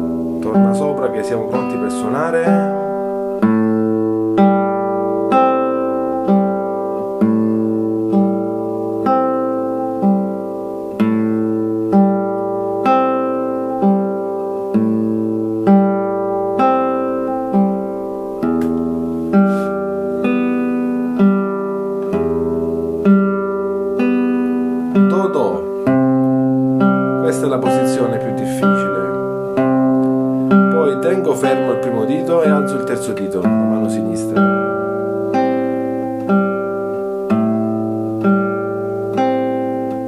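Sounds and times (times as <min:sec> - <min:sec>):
fingerstyle classical guitar arpeggios: 0:00.0 - 0:40.0.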